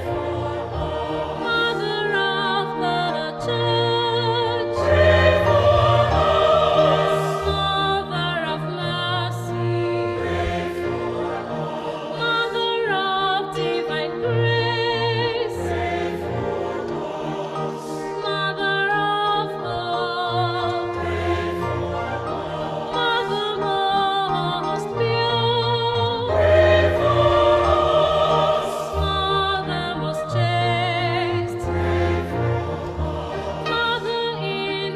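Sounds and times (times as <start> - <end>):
choir singing with vibrato: 0.0 - 34.9
orchestral accompaniment: 0.0 - 34.9.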